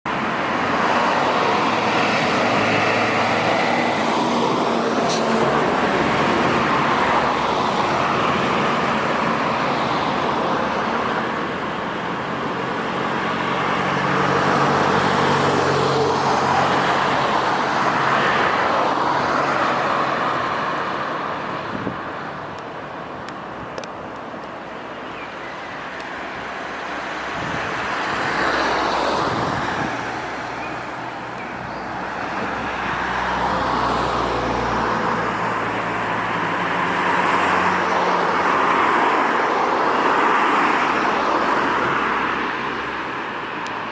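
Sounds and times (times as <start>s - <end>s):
road traffic passing: 0.1s - 43.9s.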